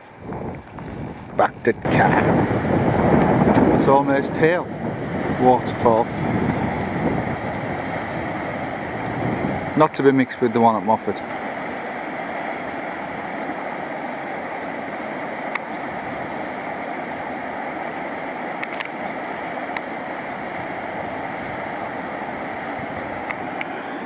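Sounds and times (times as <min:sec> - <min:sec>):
waterfall rushing: 0:01.9 - 0:24.0.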